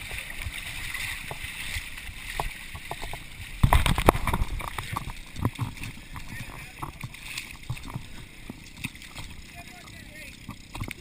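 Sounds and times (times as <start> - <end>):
muddy water sloshing and splashing: 0.0 - 11.0.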